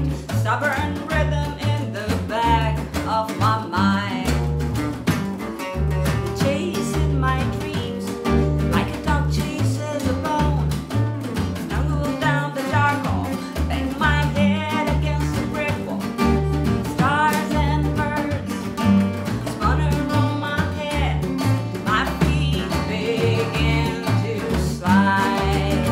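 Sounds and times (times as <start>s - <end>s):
woman singing: 0.0s - 5.0s, 5.9s - 25.9s
acoustic band playing: 0.0s - 25.9s.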